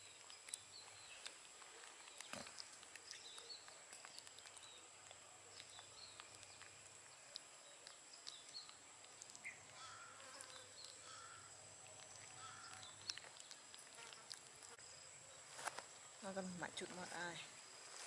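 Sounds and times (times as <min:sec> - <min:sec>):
faint chirps: 0:00.0 - 0:18.0.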